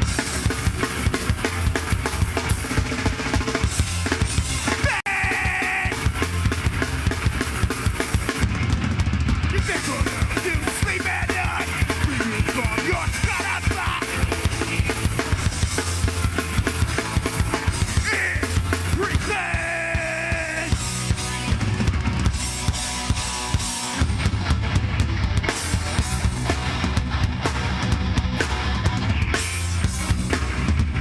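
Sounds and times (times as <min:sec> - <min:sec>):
drum kit pounding: 0:00.0 - 0:31.0
live hardcore band playing: 0:00.0 - 0:31.0.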